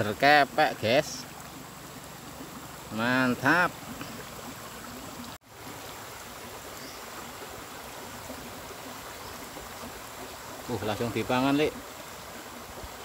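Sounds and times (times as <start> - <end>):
small stream flowing: 0.0 - 13.0.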